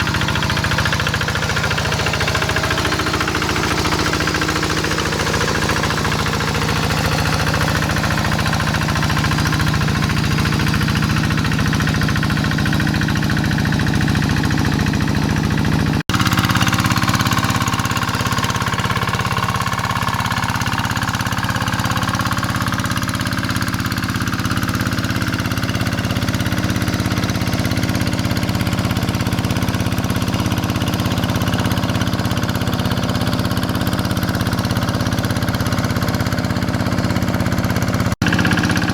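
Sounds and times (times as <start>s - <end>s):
hand tractor diesel engine running: 0.0s - 38.9s.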